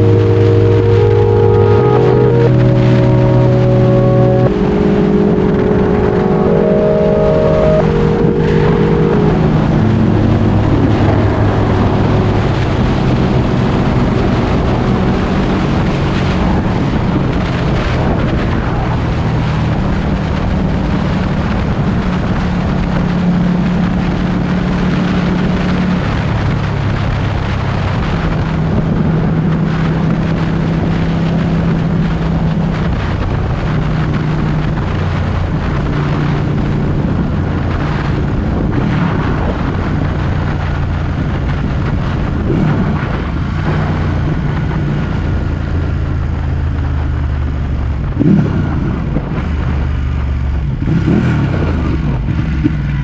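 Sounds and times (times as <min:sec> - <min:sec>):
motorcycle engine running: 0:00.0 - 0:53.0
wind on microphone: 0:07.7 - 0:53.0.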